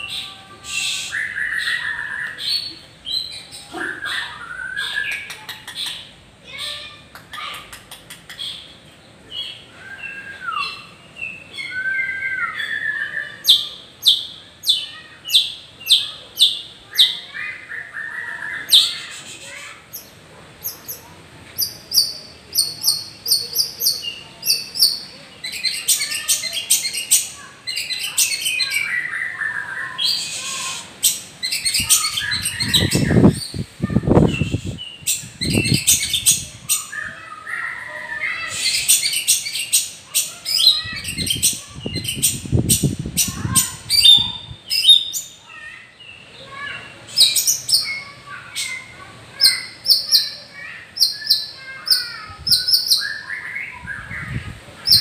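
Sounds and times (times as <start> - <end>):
bird singing varied song: 0.0 - 6.8, 8.3 - 55.0.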